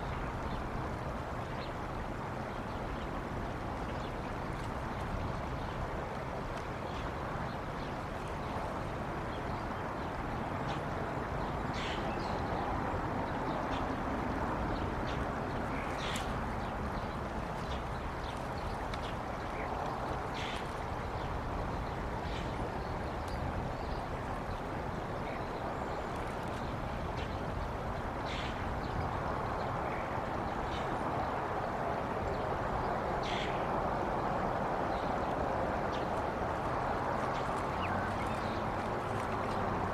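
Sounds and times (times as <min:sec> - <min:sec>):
rushing hiss of wind: 0:00.0 - 0:39.9.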